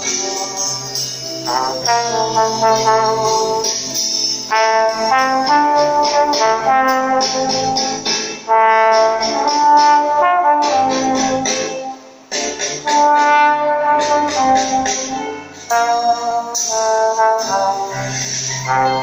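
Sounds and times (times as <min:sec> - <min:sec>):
valve trombone melody: 0:00.0 - 0:19.0.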